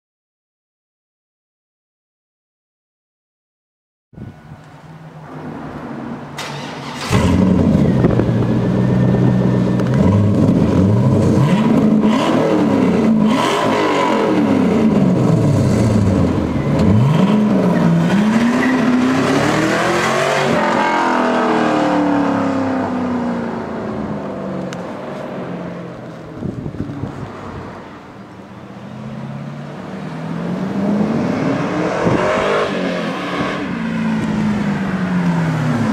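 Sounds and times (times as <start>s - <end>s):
car engine revving: 5.1s - 35.9s.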